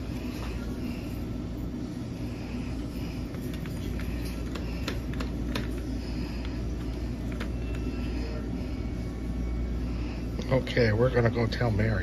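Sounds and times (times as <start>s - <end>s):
washing machines and dryers humming: 0.0s - 12.0s.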